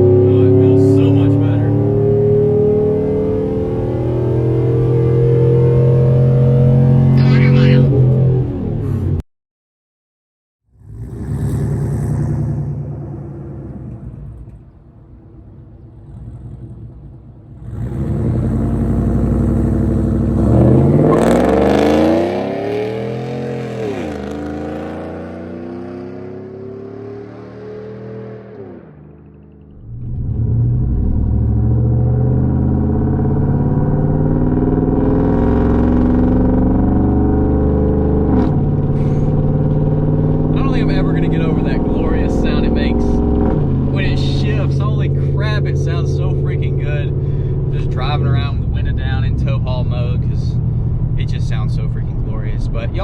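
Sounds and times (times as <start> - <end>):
pickup truck engine revving: 0.0 - 9.1, 10.7 - 14.4, 16.0 - 53.0.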